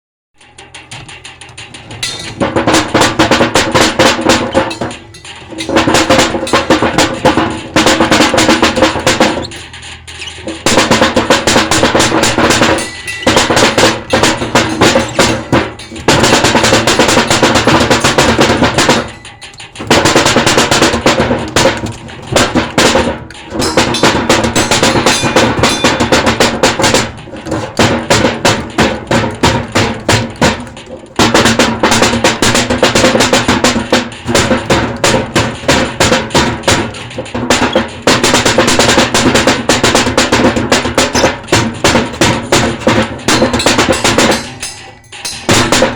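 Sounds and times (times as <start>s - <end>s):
fast loud drumming: 0.4s - 45.9s.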